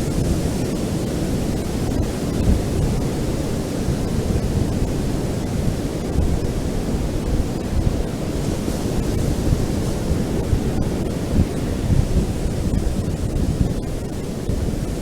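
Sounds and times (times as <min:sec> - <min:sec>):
ocean waves rumbling: 0:00.0 - 0:15.0
wind on microphone: 0:00.0 - 0:15.0.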